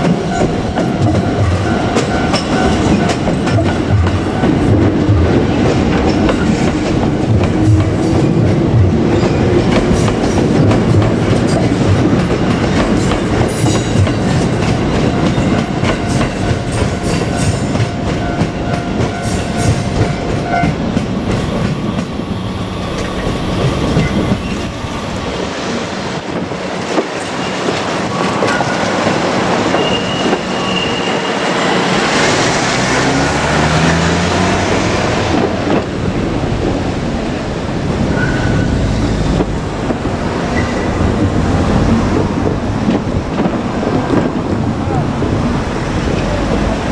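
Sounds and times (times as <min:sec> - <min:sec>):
train wheels clattering over rail joints: 0:00.0 - 0:31.3, 0:32.1 - 0:46.9.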